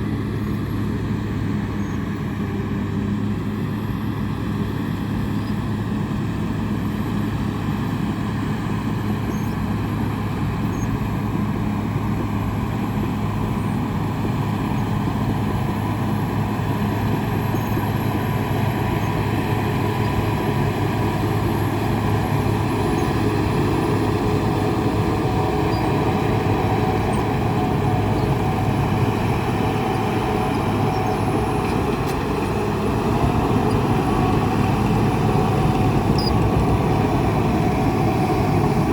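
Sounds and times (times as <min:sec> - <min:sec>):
engine running with constant hum: 0:00.0 - 0:38.9.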